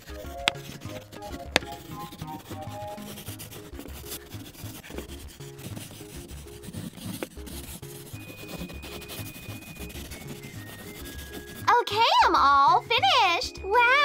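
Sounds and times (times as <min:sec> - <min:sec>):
marker scribbling on paper: 0:00.0 - 0:12.2
soft background music: 0:00.0 - 0:14.0.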